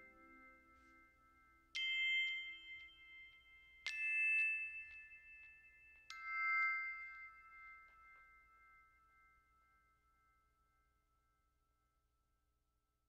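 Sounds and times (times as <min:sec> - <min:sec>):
bell-like struck notes: 0:00.0 - 0:10.6.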